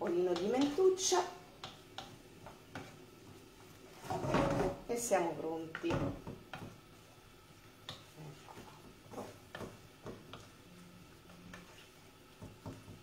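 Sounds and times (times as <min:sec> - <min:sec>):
utensil tapping frying pan: 0:00.0 - 0:13.0.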